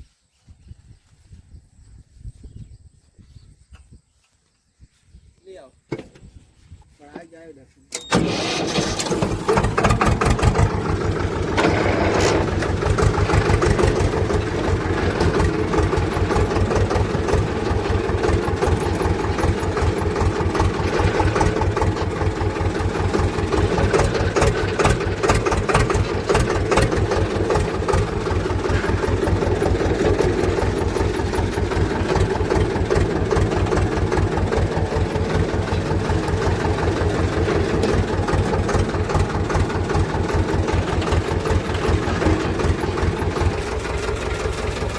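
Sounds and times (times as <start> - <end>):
tractor diesel engine running: 7.9 - 44.9.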